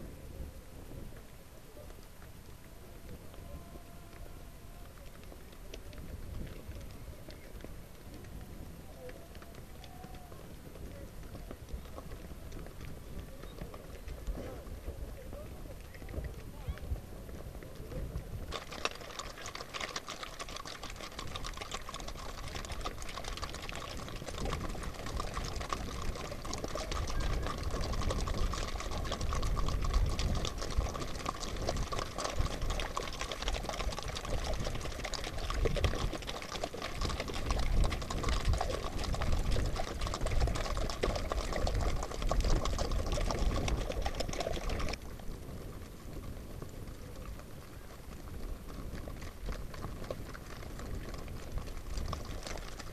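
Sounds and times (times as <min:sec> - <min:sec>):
wind buffeting microphone: 0:00.0 - 0:19.4, 0:20.5 - 0:52.9
hooves clattering on wet gravel: 0:01.8 - 0:52.9.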